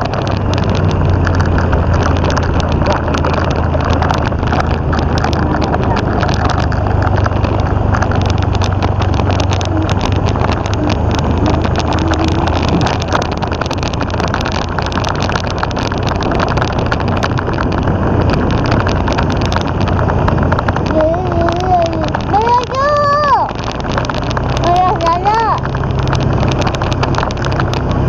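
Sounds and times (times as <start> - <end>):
motorcycle engine humming: 0.0 - 28.0
rough gearbox noise: 0.0 - 28.0.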